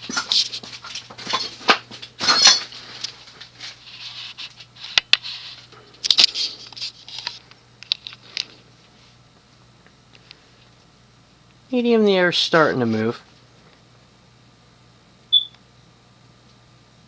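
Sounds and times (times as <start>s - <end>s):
ceiling fan motor humming: 0.0s - 17.0s.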